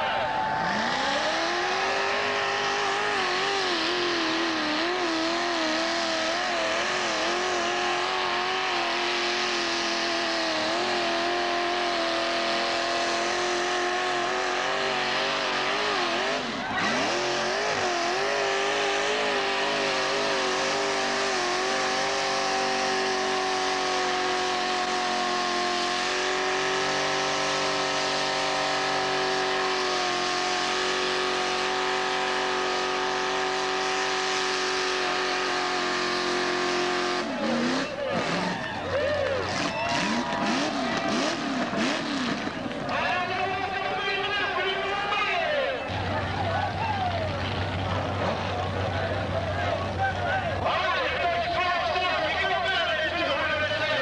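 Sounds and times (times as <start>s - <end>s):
engine revving high: 0.0s - 54.0s.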